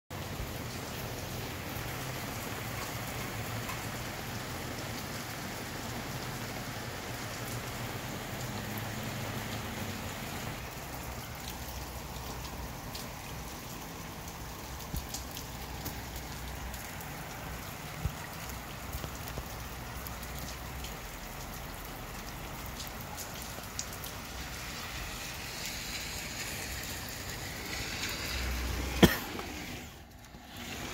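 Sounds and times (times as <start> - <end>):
steady rain falling: 0.1 - 30.9.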